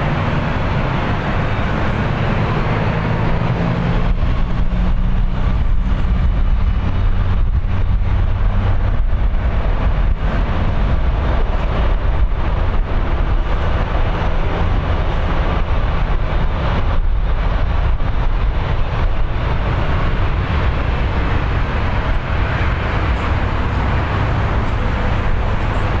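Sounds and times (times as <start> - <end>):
distant jet engines roaring: 0.0 - 26.0.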